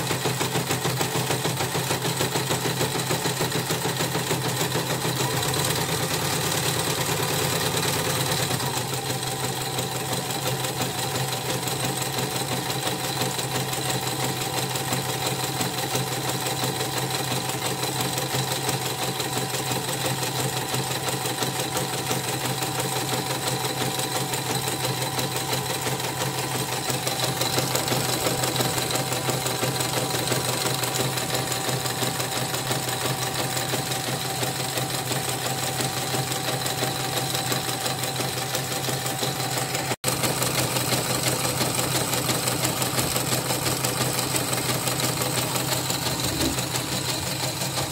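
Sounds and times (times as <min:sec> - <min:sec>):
embroidery machine stitching: 0:00.0 - 0:47.9.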